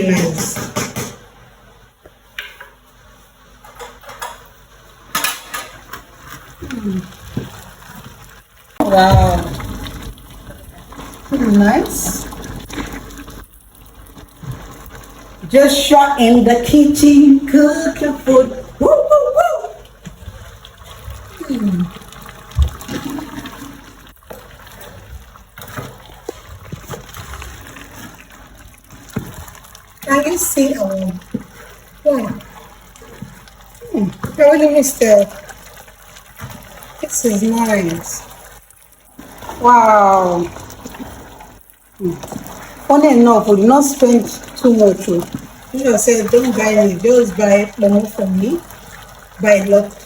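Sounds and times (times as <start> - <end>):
water splashing and trickling: 2.9 - 50.0.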